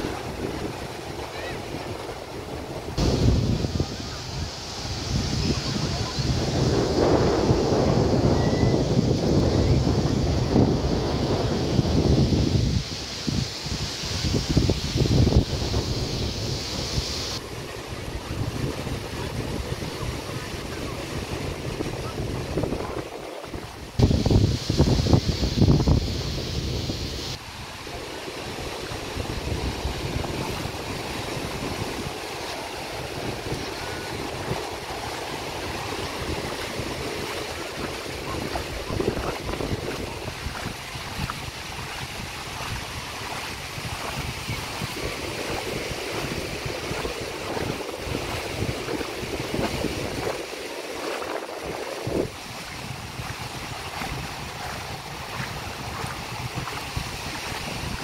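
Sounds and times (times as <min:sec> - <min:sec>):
small waves on sandy beach: 0:00.0 - 0:58.0
wind buffeting microphone: 0:00.0 - 0:58.0.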